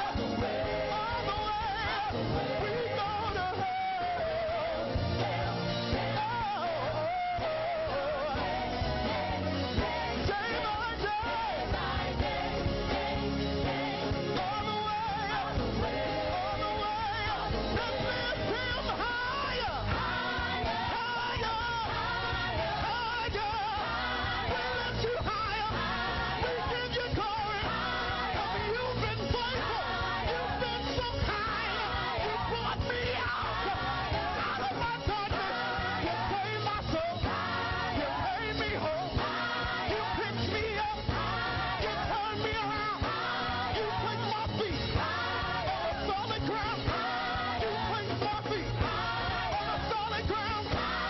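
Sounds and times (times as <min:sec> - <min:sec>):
lead singer singing: 0:00.0 - 0:12.9, 0:13.6 - 0:51.0
band with bass and percussion: 0:00.0 - 0:51.0.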